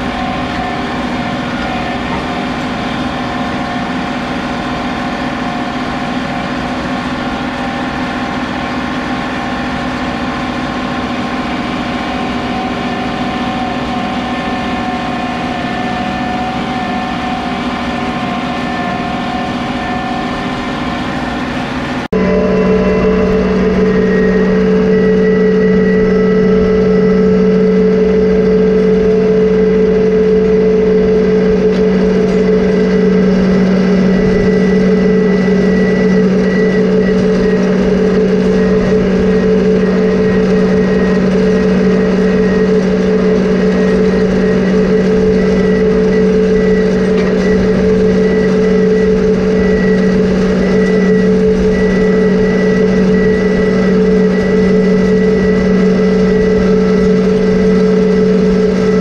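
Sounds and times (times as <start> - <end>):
faint high whine: 0.0 - 59.0
tractor diesel engine under load: 0.0 - 59.0.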